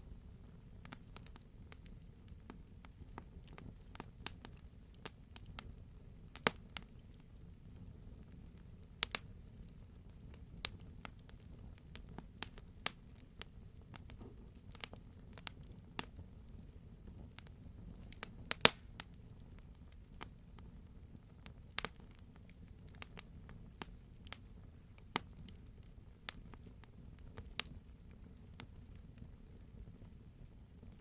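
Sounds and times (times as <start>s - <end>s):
campfire crackling and popping: 0.0s - 31.0s
low rumble of flames: 0.0s - 31.0s.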